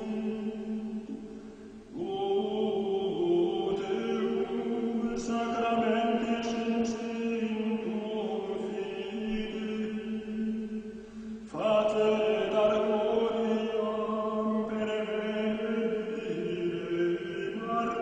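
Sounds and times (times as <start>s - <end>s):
slow liturgical chant: 0.0s - 18.0s.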